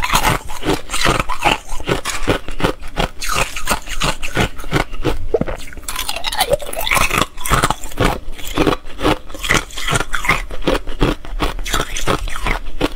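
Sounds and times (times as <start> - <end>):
ice being crunched and chewed: 0.0 - 12.9.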